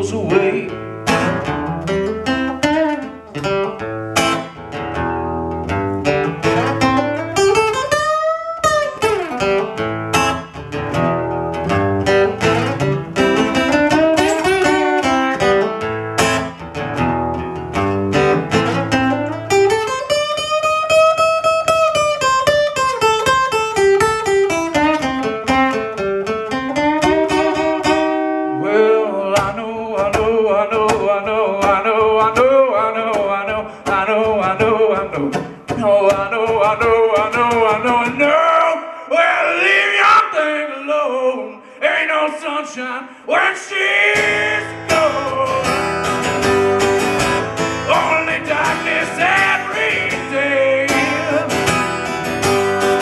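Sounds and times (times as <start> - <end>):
acoustic guitar playing blues: 0.0 - 53.0.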